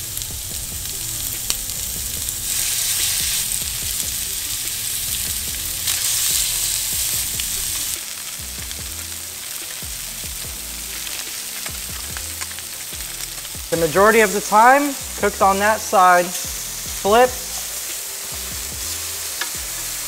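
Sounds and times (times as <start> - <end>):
fish sizzling in frying pan: 0.0 - 20.0.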